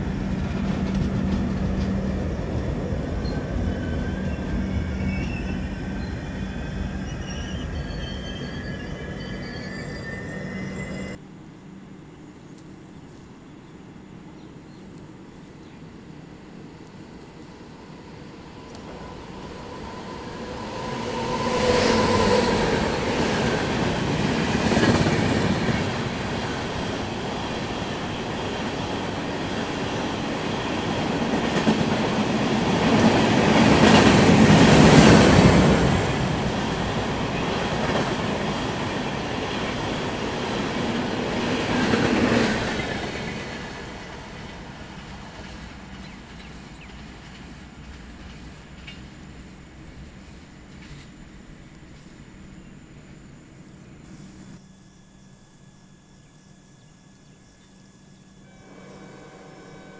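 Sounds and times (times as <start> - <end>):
train passing at speed: 0.0 - 11.3, 13.9 - 54.6, 57.9 - 59.9.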